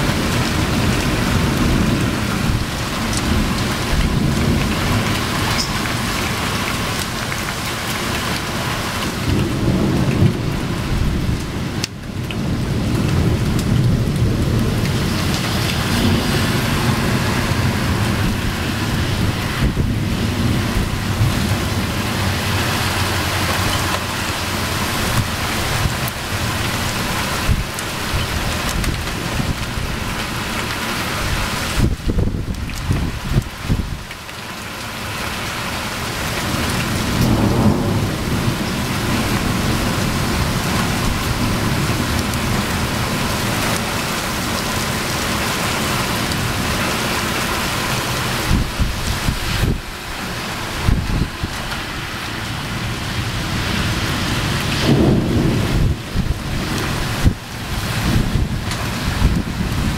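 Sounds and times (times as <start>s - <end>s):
thunder rumbling: 0.0s - 34.1s, 35.5s - 59.9s
steady rain: 0.0s - 59.9s.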